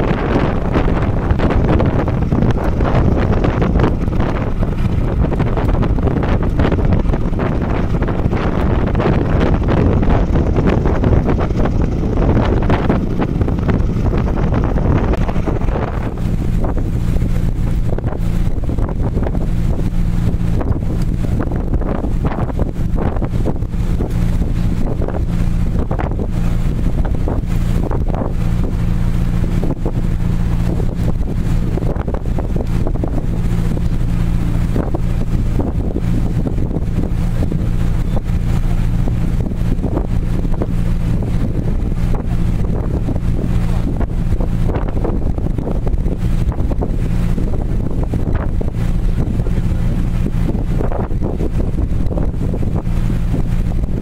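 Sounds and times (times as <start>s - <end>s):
ferry engine drone: 0.0s - 54.0s
wind buffeting microphone: 0.0s - 54.0s.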